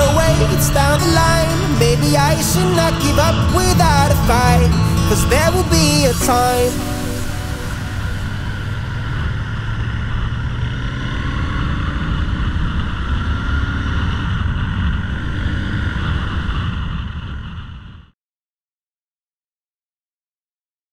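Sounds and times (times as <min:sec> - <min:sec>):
motorcycle engine cruising: 0:00.0 - 0:18.1.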